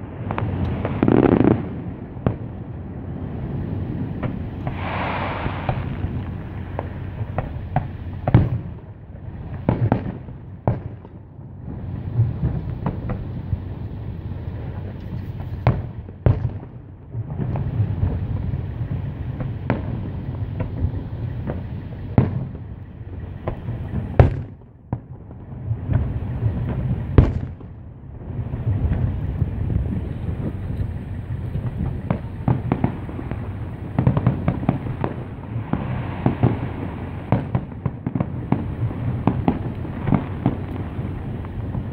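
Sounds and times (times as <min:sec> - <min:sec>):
distant fireworks bangs: 0:00.0 - 0:41.9
steady low rumble: 0:00.0 - 0:41.9.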